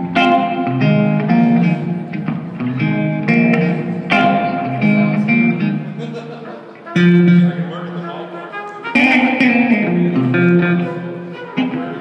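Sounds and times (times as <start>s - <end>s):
electric guitar melody: 0.0s - 12.0s.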